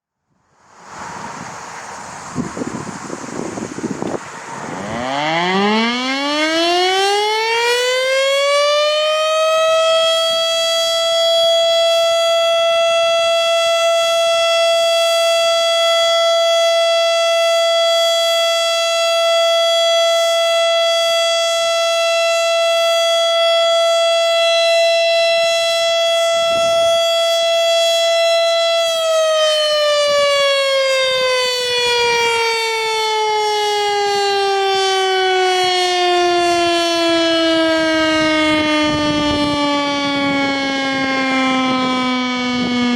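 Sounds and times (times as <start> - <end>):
outdoor warning siren: 0.0 - 42.9.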